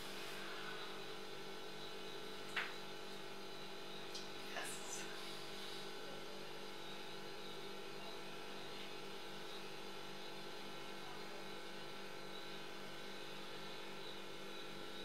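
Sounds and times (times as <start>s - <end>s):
electrical hum and buzz: 0.0s - 15.0s.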